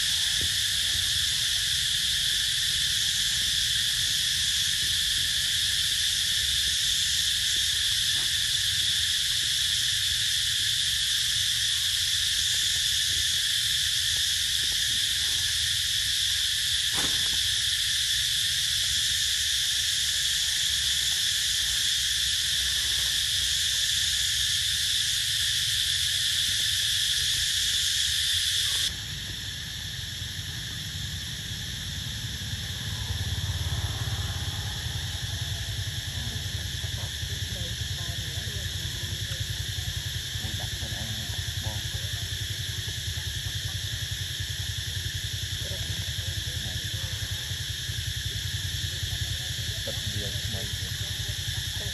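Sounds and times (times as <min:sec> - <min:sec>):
high-pitched insect drone: 0:00.0 - 0:51.9.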